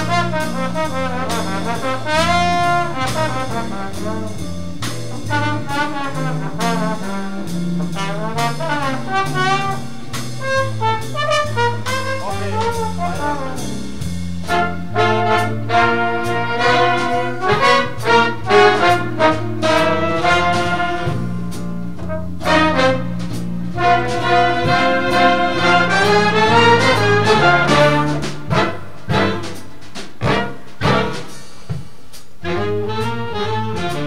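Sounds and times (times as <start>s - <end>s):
trumpets and trombones: 0.0s - 31.7s, 32.4s - 34.0s
walking bass line: 0.0s - 34.0s.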